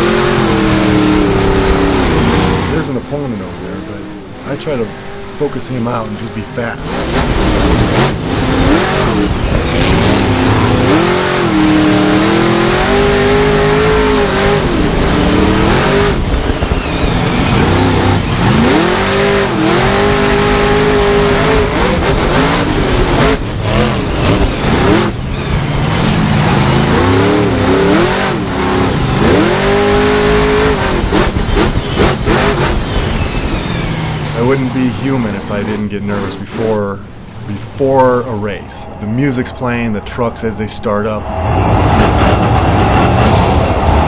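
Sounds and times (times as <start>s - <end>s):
truck engines revving hard: 0.0s - 44.0s.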